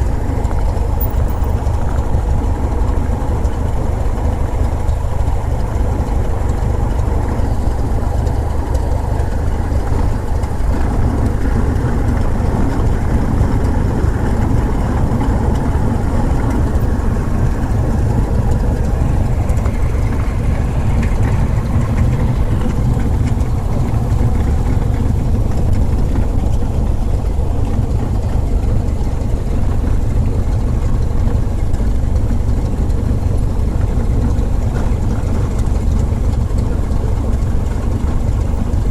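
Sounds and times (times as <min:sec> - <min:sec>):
propeller airplane engine droning: 0:00.0 - 0:38.9.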